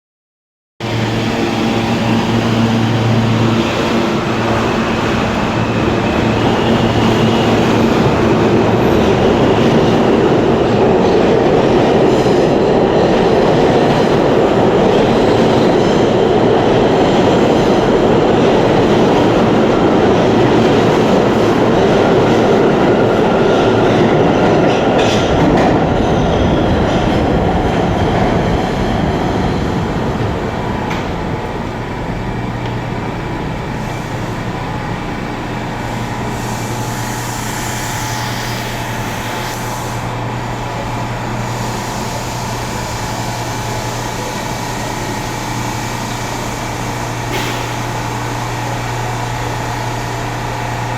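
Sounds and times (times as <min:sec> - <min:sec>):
subway train rumbling on rails: 0:00.8 - 0:50.9.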